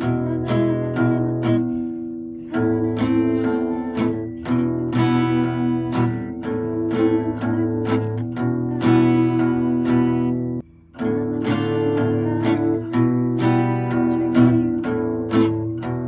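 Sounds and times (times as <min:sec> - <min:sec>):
acoustic guitar chords strummed: 0:00.0 - 0:16.0.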